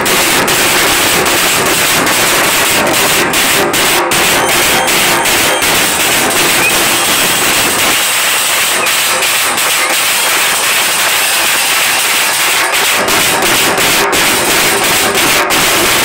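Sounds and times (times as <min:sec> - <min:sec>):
large drums beaten hard: 0:00.0 - 0:16.0.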